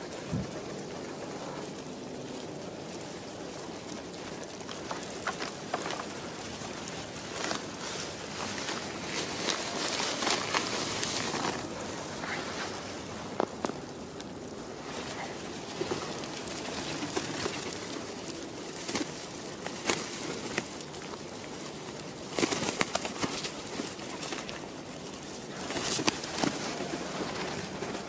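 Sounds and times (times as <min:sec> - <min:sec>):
pigeons cooing: 0:00.0 - 0:28.0
pigeons pecking seeds: 0:00.0 - 0:28.0.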